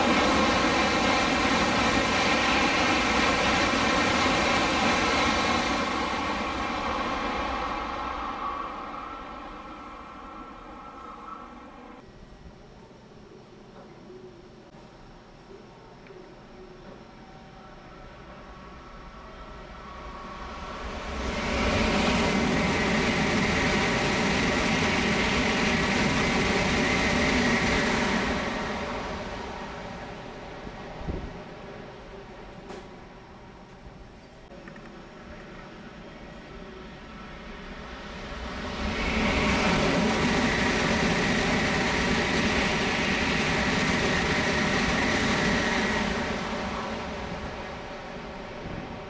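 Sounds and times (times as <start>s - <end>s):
high-speed train passing: 0.0s - 12.1s, 16.8s - 49.0s.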